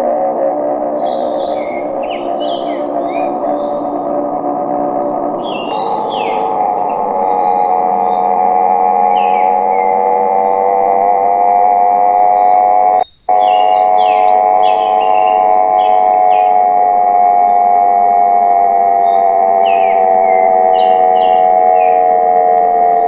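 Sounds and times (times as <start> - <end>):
dinosaur call drone: 0.0 - 23.0
bird chirps: 0.4 - 23.0.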